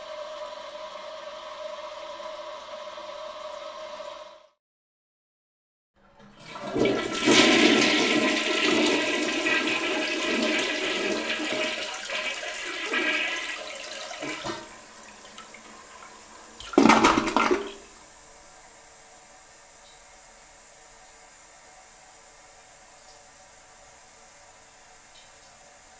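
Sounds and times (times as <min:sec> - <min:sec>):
toilet flushing: 0:00.0 - 0:04.5, 0:06.0 - 0:25.9.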